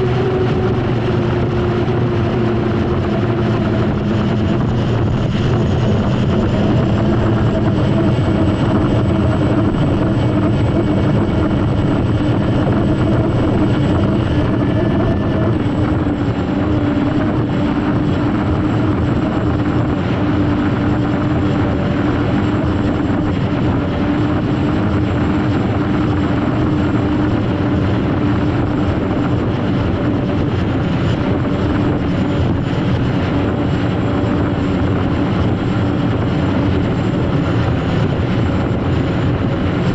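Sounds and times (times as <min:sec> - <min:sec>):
high-pitched turbine whine: 0:00.0 - 0:39.9
turbine engine roar: 0:00.0 - 0:39.9.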